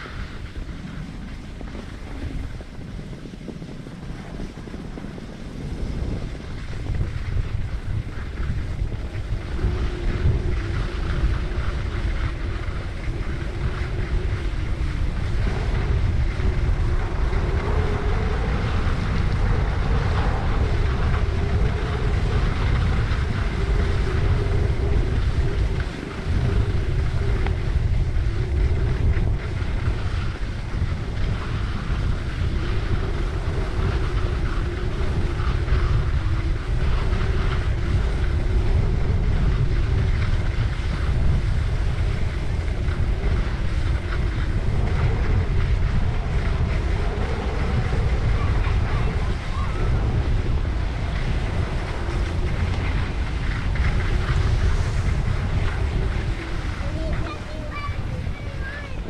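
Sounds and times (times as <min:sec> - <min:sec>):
skis scraping on snow: 0:00.0 - 0:59.0
wind rushing over microphone: 0:00.0 - 0:59.0.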